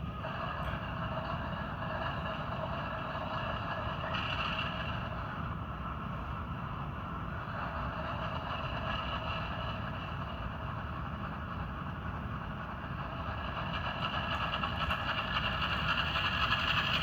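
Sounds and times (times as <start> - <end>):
model locomotive engine sound: 0.0 - 17.0.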